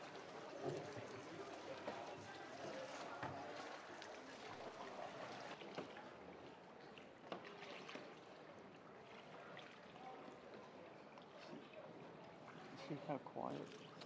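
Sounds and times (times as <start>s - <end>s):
water lapping and swishing: 0.0s - 14.0s.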